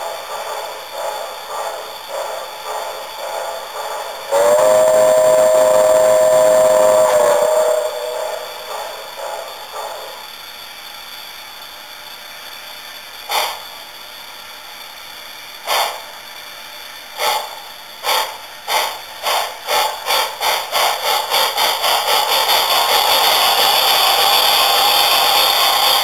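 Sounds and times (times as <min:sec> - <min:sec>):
model steam locomotive chuffing: 0:00.0 - 0:26.0
steady steam hiss: 0:00.0 - 0:26.0.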